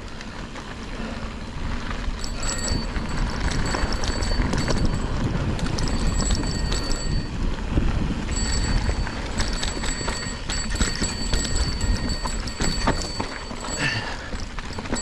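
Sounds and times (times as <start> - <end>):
bike clicks and rattles: 0.0 - 15.0
wind rumble on microphone: 0.0 - 15.0.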